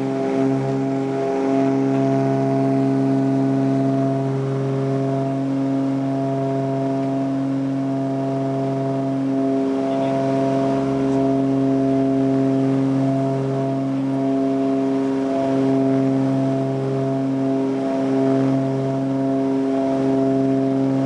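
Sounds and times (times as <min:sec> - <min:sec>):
propeller engines droning: 0:00.0 - 0:21.0.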